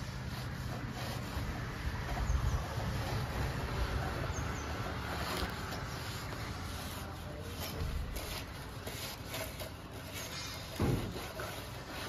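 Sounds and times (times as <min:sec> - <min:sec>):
plaster scraping on concrete: 0:00.0 - 0:12.0.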